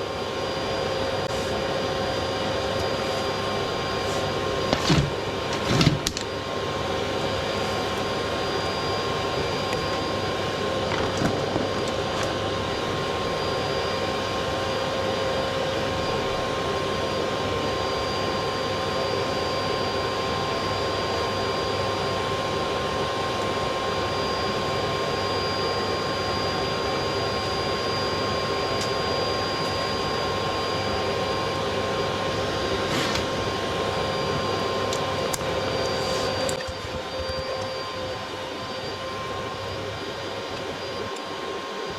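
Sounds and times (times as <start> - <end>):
vacuum cleaner motor whine: 0.0 - 41.9.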